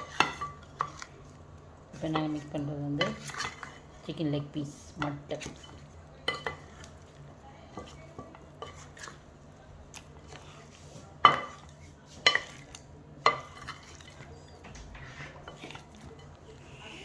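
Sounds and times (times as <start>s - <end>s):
chicken pieces squelching in bowl: 0.0s - 17.0s.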